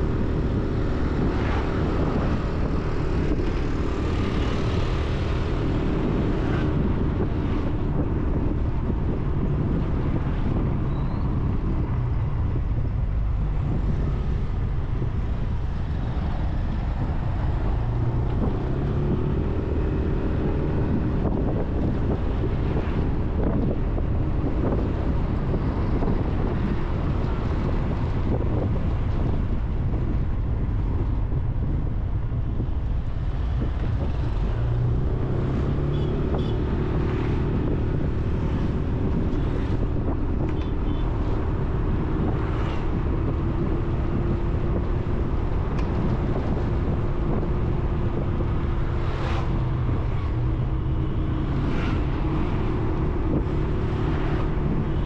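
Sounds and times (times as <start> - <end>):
road and traffic noise: 0.0 - 55.0
steady engine hum: 0.0 - 55.0
wind buffeting microphone: 0.0 - 55.0.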